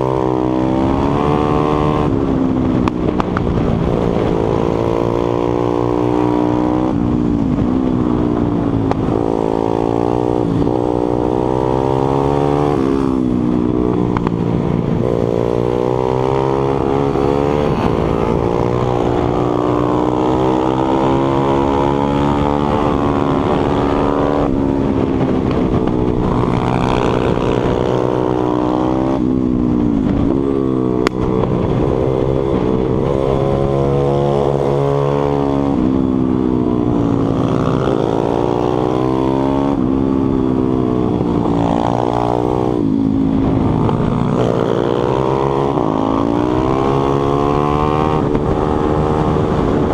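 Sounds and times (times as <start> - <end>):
motorbike engine revving through gears: 0.0 - 49.9.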